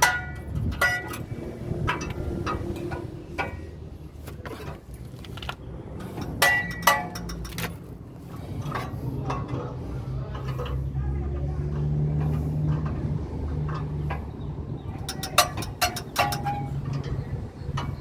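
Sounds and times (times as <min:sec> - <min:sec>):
metal tools clinking: 0:00.0 - 0:11.5, 0:12.2 - 0:18.0.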